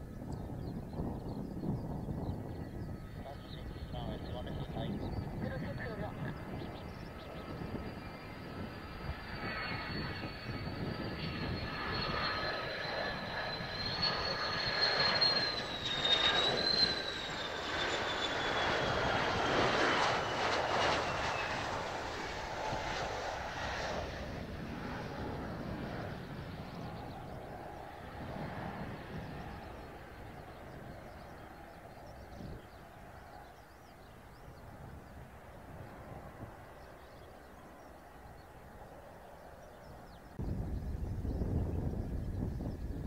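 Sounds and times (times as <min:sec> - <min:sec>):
jet engine high whine: 0:00.0 - 0:43.0.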